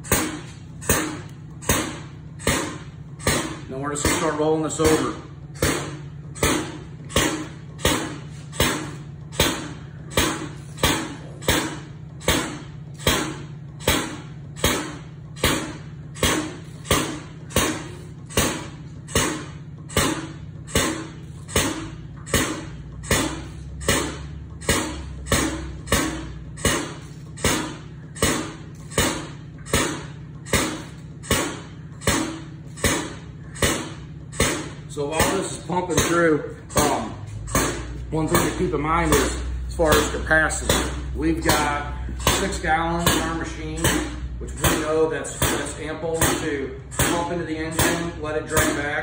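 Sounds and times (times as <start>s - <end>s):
oil pump machine humming: 0.0s - 49.0s.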